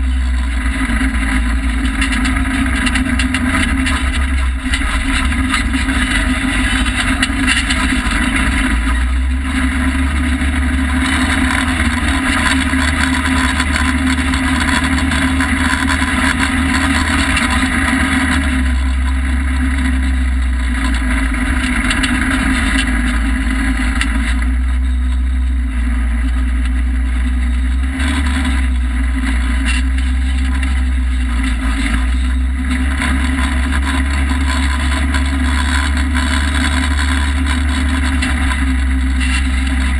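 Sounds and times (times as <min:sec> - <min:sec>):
off-road vehicle engine droning: 0:00.0 - 0:39.9.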